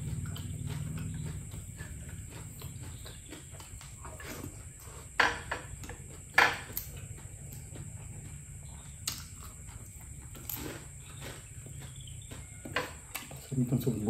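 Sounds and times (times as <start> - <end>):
chewing and lip-smacking: 0.0 - 14.0
steady low hum: 0.0 - 14.0.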